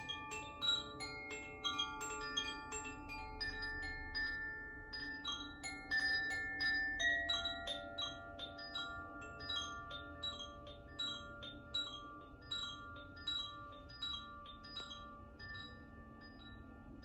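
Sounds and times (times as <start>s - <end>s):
chimes ringing: 0.0s - 17.0s.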